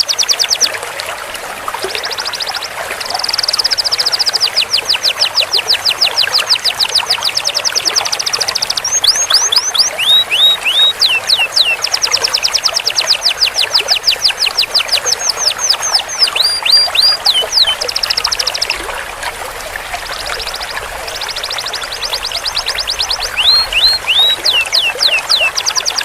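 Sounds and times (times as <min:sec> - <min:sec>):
canary singing rapid trills: 0:00.0 - 0:00.8, 0:02.0 - 0:18.9, 0:20.2 - 0:26.0.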